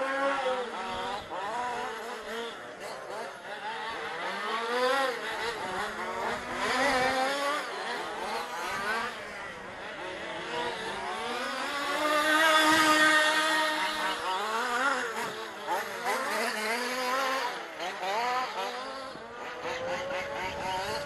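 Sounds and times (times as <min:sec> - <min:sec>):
model buggy engines revving: 0:00.0 - 0:21.0.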